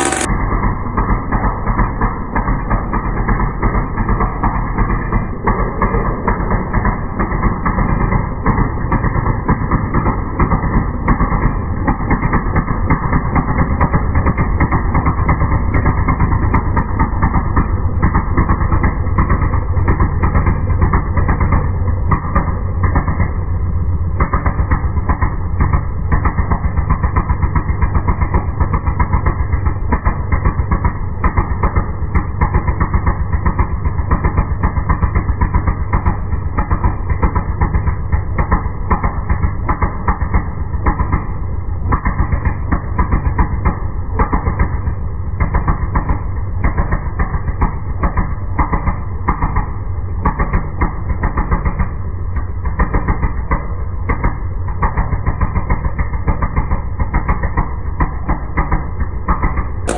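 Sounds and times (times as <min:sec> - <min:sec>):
two-stroke engine idling: 0:00.0 - 0:49.7, 0:54.4 - 0:59.9.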